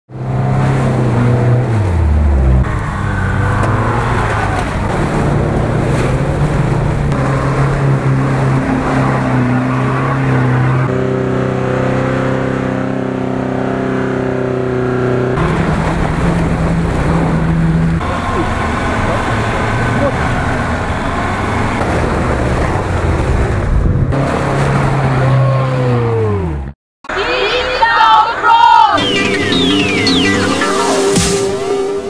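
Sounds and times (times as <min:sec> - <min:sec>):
suv engines revving high: 0:00.1 - 0:26.8, 0:29.0 - 0:32.0.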